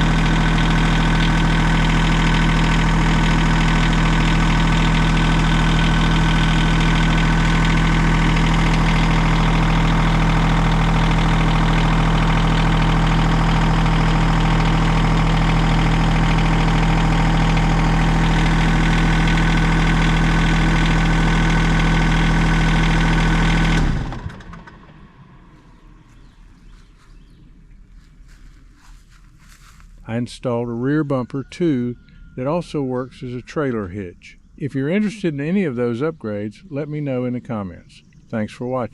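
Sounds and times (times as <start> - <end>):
excavator engine running: 0.0 - 37.6.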